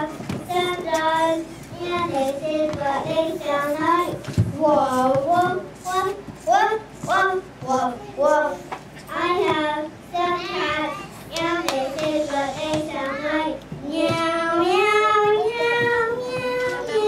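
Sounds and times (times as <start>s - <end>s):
child singing into a microphone: 0.0s - 17.0s.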